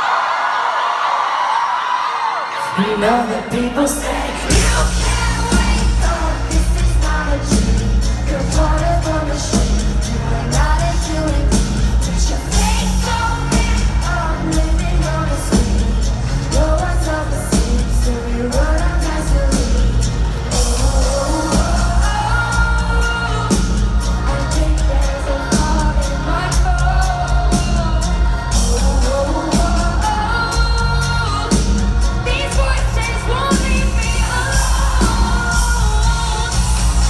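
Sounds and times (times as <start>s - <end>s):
band with drums and cymbals: 2.7s - 37.0s
woman singing: 2.8s - 37.0s.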